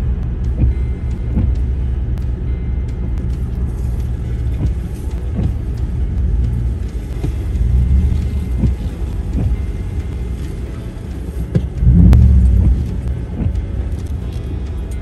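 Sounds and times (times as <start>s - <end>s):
vehicle engine running low: 0.0s - 15.0s.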